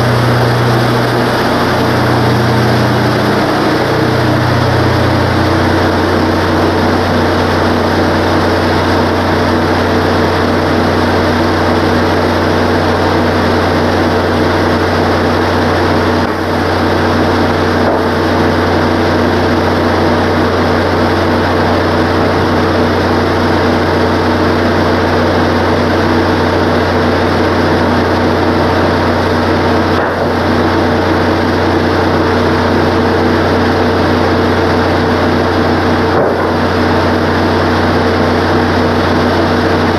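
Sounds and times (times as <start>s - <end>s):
gasoline engine running: 0.0s - 39.9s.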